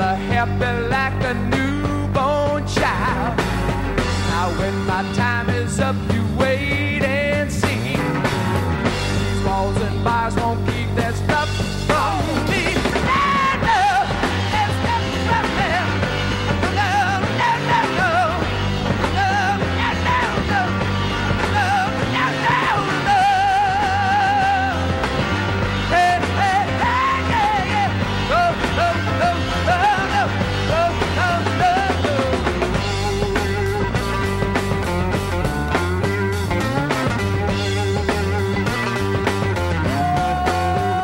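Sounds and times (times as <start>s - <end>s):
high lead vocal: 0.0s - 8.4s, 9.0s - 35.3s, 37.2s - 41.0s
rock band playing: 0.0s - 41.0s.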